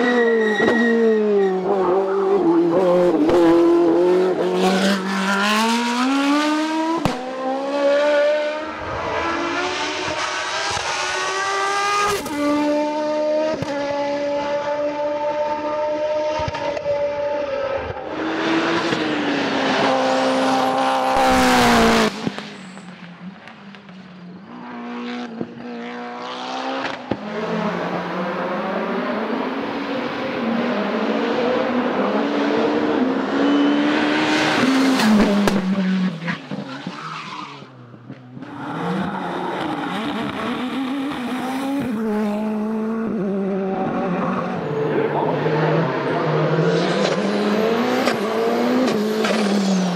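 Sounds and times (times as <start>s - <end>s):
racing car engines revving high: 0.0s - 49.9s.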